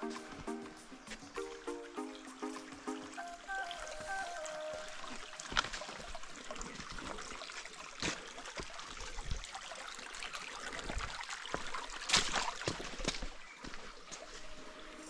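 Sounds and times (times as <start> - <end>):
stream running water: 0.0 - 15.0.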